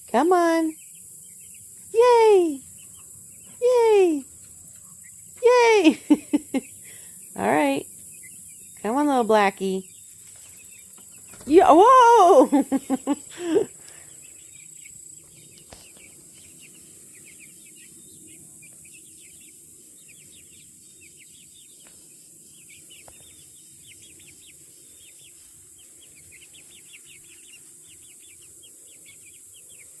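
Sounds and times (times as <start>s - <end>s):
chicks peeping: 0.7s - 30.0s.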